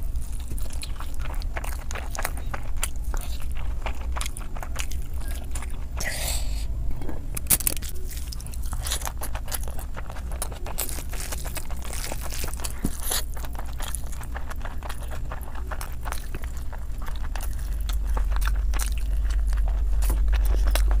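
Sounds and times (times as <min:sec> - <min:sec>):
wet chewing crunches: 0:00.0 - 0:06.2, 0:07.4 - 0:21.0
low hum: 0:00.0 - 0:21.0.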